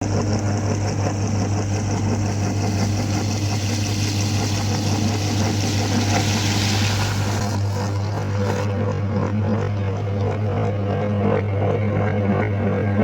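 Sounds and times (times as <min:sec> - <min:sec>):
meat grinder motor humming: 0:00.0 - 0:12.8.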